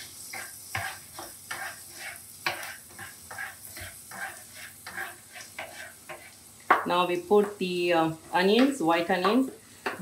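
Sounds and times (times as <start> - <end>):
gentle sizzle: 0.0 - 10.0
spatula scraping frying pan: 0.0 - 10.0.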